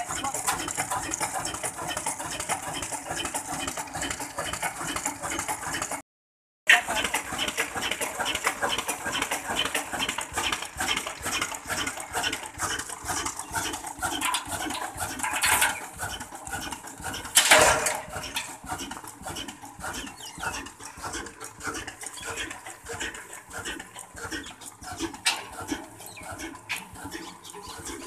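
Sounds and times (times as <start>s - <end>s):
diesel engine knocking: 0.0s - 6.0s, 6.7s - 28.0s.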